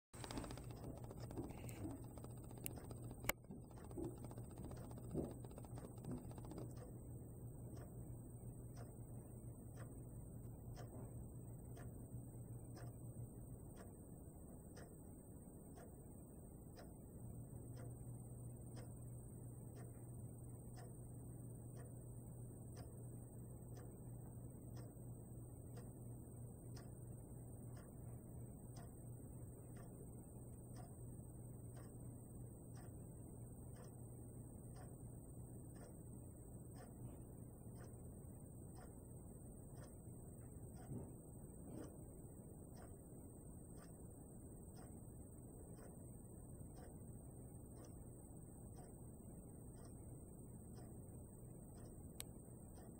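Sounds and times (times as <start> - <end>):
faint regular ticking: 0.2 - 52.9
low steady hum: 0.2 - 52.9.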